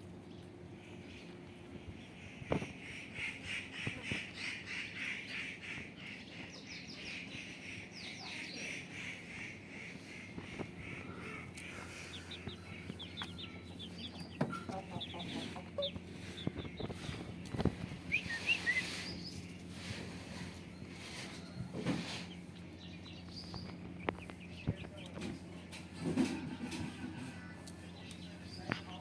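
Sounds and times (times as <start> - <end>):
chickens clucking and calling: 0.2 - 29.0.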